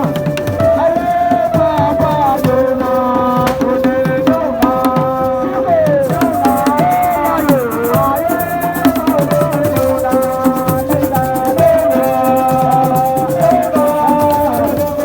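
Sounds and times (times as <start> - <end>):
hand drums beating: 0.0 - 15.0
held wavering melody: 0.0 - 15.0.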